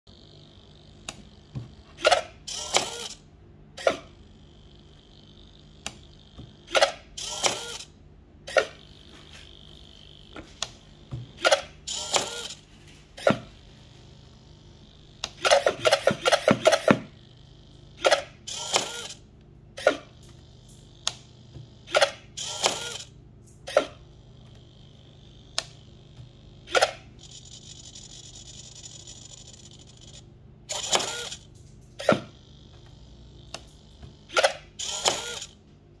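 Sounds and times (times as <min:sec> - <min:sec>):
small servo whining: 0:00.1 - 0:35.6.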